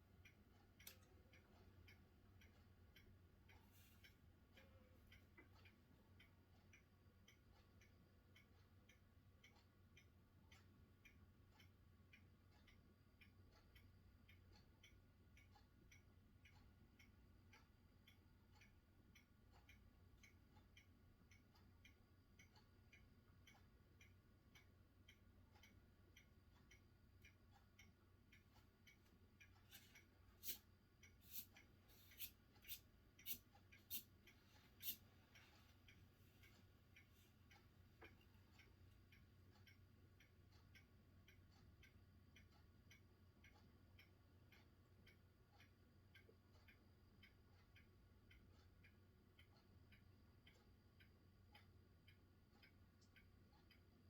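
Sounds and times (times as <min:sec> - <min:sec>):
faint steady ticking: 0:00.0 - 0:54.0.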